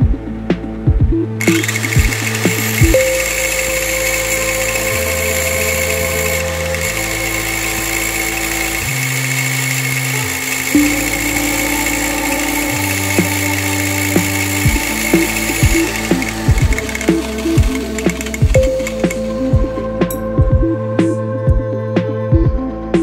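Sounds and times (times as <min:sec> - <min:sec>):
synthesizer chords: 0:00.0 - 0:23.0
steady high hum: 0:01.2 - 0:20.6.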